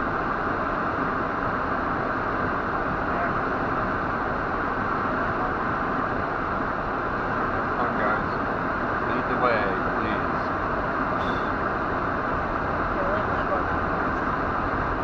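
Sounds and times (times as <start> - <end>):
road and wind noise in car cabin: 0.0 - 15.0.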